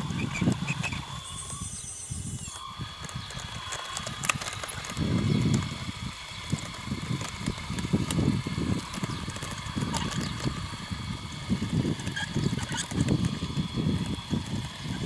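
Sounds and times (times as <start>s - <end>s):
faint drive whine: 0.0s - 15.0s
tracks knocking and clicking: 2.9s - 15.0s.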